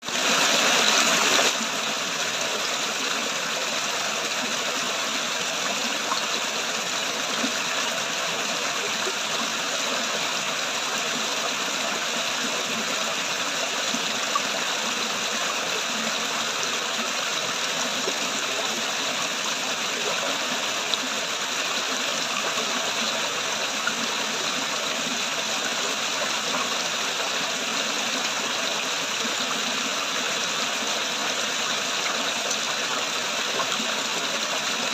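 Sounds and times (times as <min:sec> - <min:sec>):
water splashing down a waterfall: 0:00.0 - 0:34.9.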